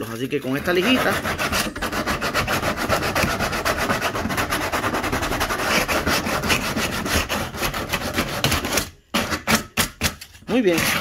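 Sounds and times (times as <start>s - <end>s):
sandpaper rubbing on plastic: 0.5s - 9.8s, 10.5s - 11.0s.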